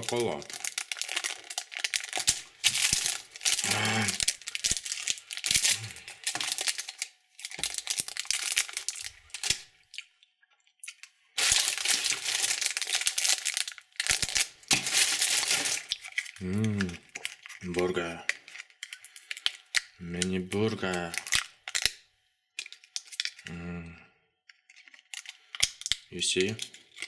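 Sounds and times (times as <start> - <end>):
plastic wrappers crinkling and tearing: 0.0 - 10.1, 10.8 - 22.0, 22.6 - 23.5, 24.6 - 27.0.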